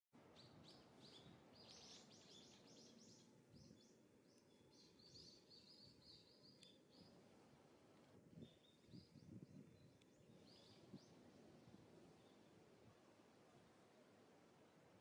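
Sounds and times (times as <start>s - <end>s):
small birds chirping: 0.2s - 12.7s
low steady background rumble: 0.2s - 15.0s.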